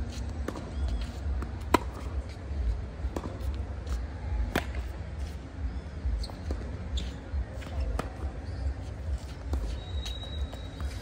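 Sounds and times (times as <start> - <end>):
tennis balls struck by rackets: 0.0 - 5.1, 6.2 - 11.0
tennis balls bouncing: 0.0 - 5.4, 6.0 - 11.0.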